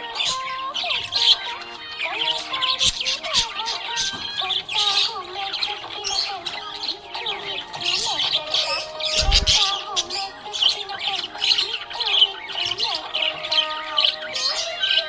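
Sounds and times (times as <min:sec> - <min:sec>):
budgies chirping and warbling: 0:00.0 - 0:15.0.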